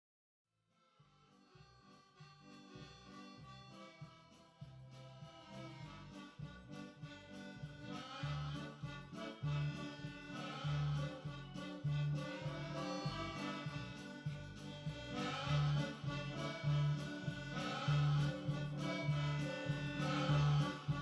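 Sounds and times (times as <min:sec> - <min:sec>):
accordion-like background music: 0:01.1 - 0:21.0.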